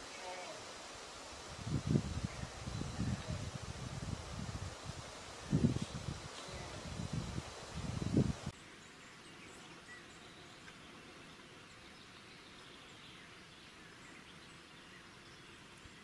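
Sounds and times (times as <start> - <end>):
low even hiss: 0.0 - 16.0.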